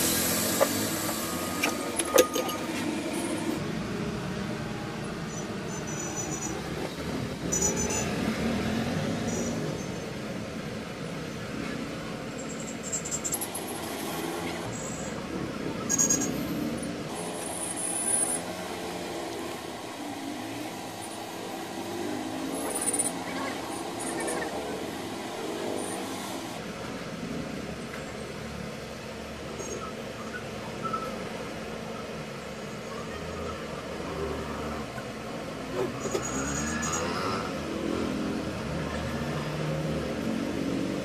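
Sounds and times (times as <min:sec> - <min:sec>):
traffic and street noise: 0:00.0 - 0:41.0.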